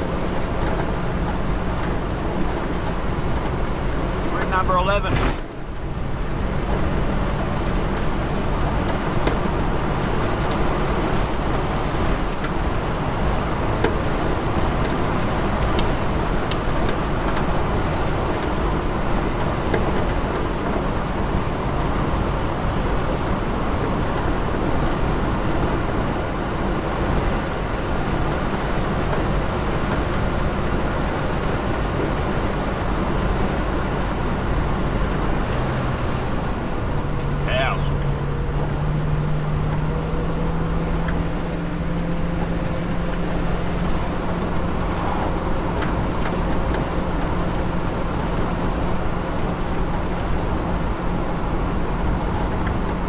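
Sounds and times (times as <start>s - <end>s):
car engine drone: 0.0s - 53.0s.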